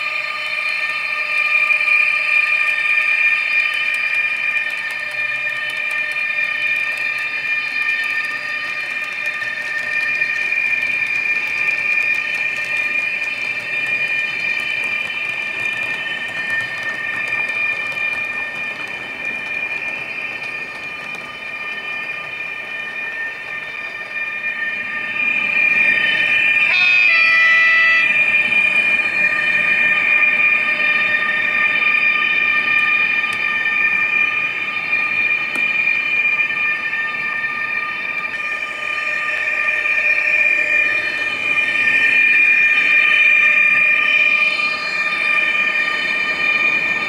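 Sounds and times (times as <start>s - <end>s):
model train rolling on track: 0.0s - 47.0s.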